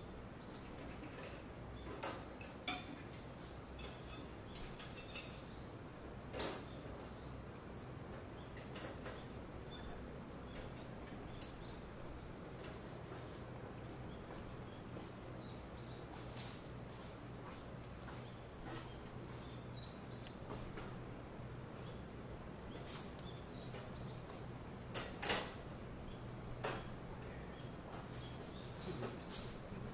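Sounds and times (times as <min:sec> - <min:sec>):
low hum and hiss: 0:00.0 - 0:29.9.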